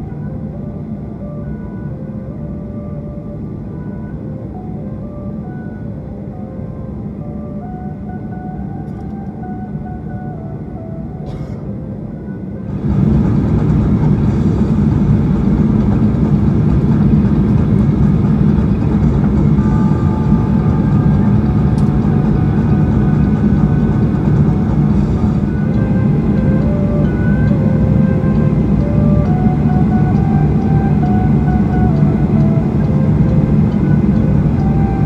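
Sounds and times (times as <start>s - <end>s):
aircraft cabin rumble: 0.0s - 35.0s
faint background music: 0.0s - 35.0s.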